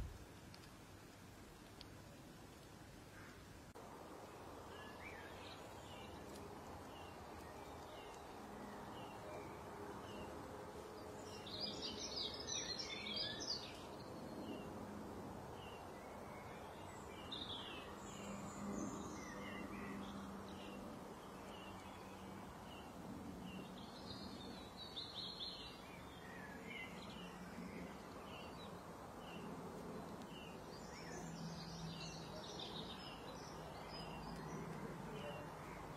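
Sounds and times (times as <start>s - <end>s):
low background noise: 0.0s - 35.9s
songbirds chirping: 0.0s - 35.9s.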